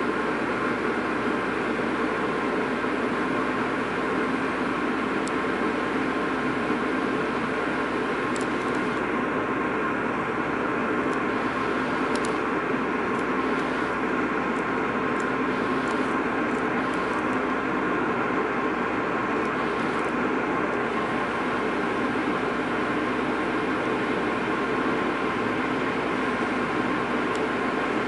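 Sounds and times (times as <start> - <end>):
ship engines droning: 0.0 - 28.0.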